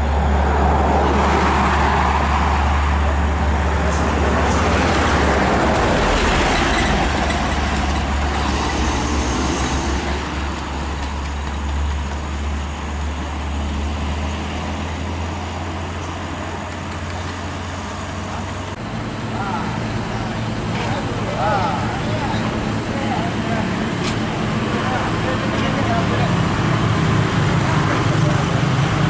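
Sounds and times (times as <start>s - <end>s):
low traffic engine drone: 0.0s - 29.0s.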